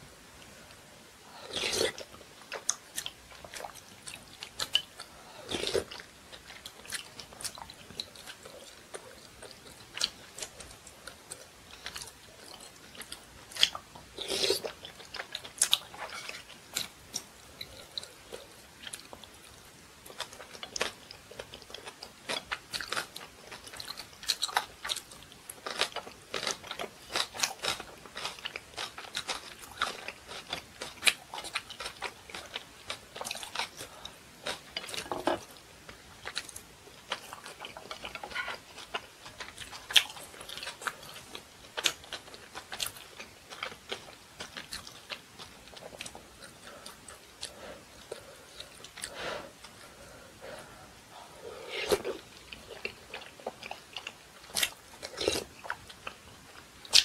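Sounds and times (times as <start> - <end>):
person chewing crunchy food: 1.3 - 57.0.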